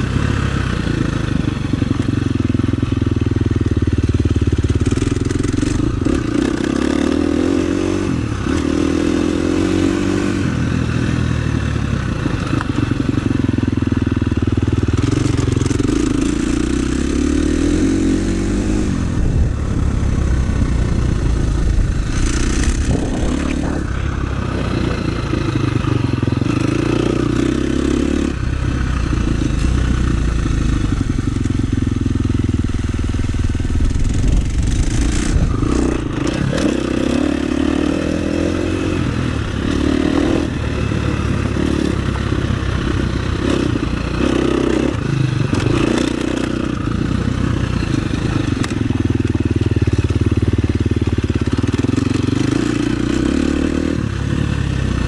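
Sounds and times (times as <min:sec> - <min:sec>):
motocross bike engine revving: 0:04.2 - 0:13.3, 0:14.4 - 0:49.0, 0:49.8 - 0:55.0.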